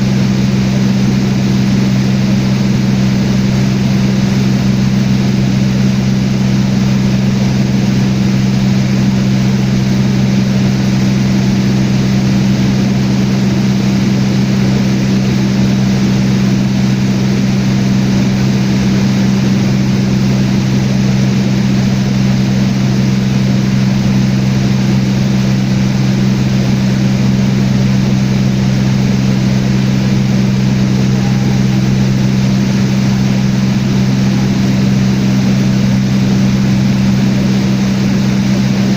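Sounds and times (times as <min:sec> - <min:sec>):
propeller airplane droning: 0:00.0 - 0:38.9.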